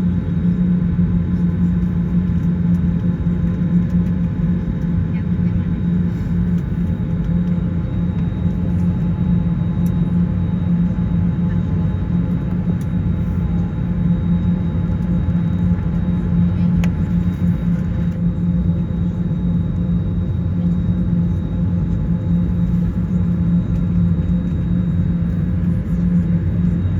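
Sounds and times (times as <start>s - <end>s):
airplane cabin rumble and hum: 0.0s - 26.9s.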